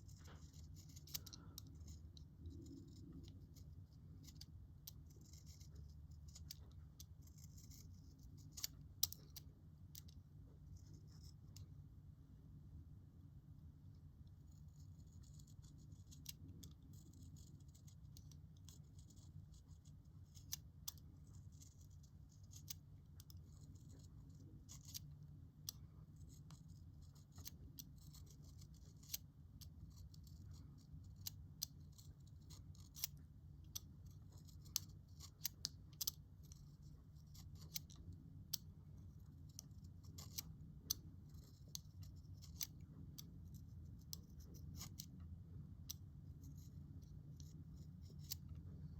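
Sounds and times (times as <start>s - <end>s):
knife shaving wood from pencil: 0.0s - 11.4s, 14.4s - 45.2s, 45.8s - 48.9s.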